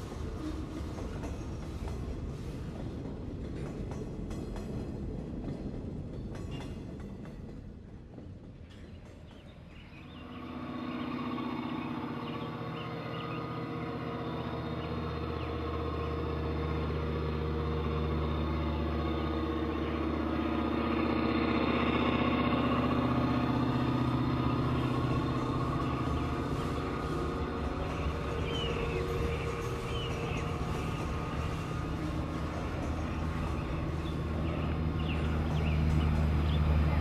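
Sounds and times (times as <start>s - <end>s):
diesel locomotive engines humming: 0.0s - 37.0s.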